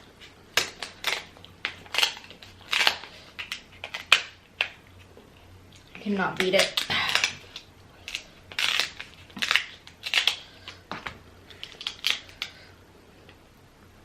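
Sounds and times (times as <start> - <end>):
crab shell cracking and crunching: 0.2 - 10.8, 11.5 - 12.6.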